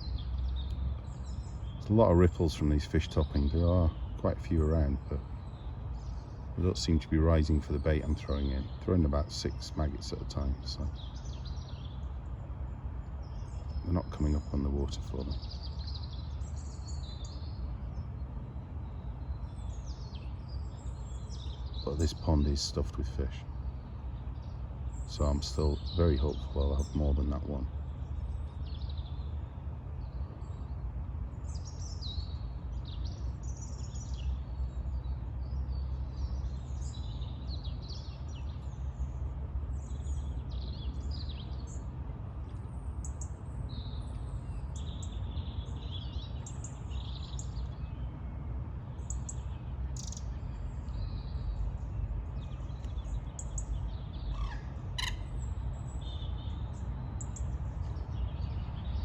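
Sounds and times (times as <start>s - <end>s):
birds chirping and calling: 0.0s - 59.0s
low outdoor background rumble: 0.0s - 59.0s.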